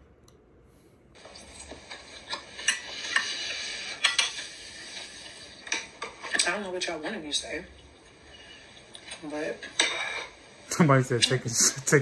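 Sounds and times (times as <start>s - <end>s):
steady hiss: 1.2s - 6.8s, 7.4s - 12.0s.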